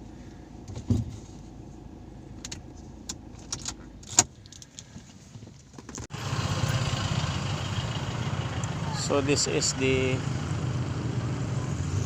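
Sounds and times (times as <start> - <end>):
low traffic rumble: 0.0 - 12.0
steady traffic noise: 0.0 - 12.0.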